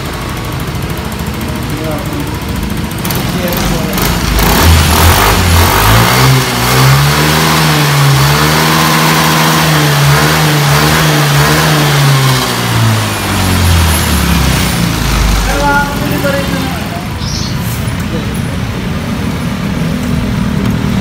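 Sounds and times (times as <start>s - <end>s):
scooter engine revving: 0.0s - 21.0s.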